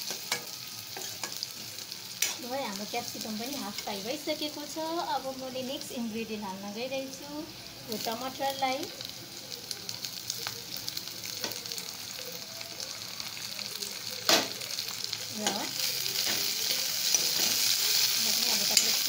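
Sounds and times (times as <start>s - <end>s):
vegetables sizzling in a wok: 0.0s - 19.0s.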